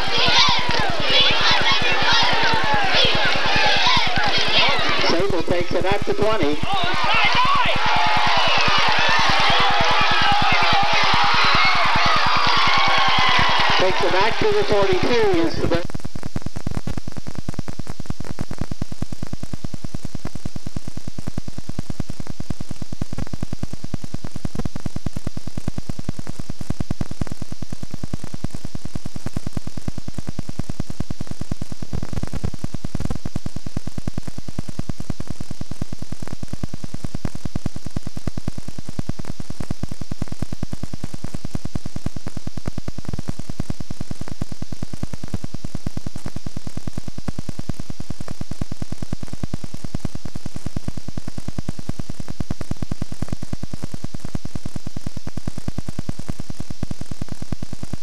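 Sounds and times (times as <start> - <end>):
tape static hiss with buzz: 0.0 - 58.0.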